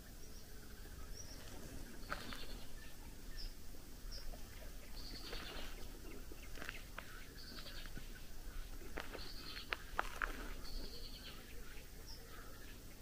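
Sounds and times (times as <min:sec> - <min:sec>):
birds chirping: 0:00.0 - 0:13.0
buzzy bird song: 0:00.0 - 0:13.0
low background noise: 0:00.0 - 0:13.0.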